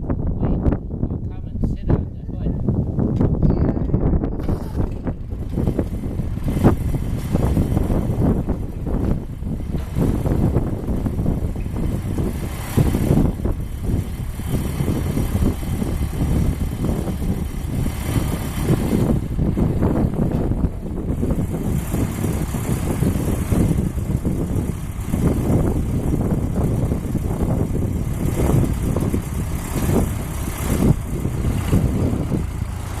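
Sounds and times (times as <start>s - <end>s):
tractor engine running: 2.8s - 33.0s.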